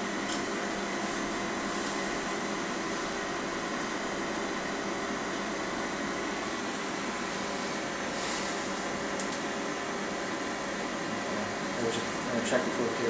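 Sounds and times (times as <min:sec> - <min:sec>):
ventilation fans humming: 0:00.0 - 0:13.0.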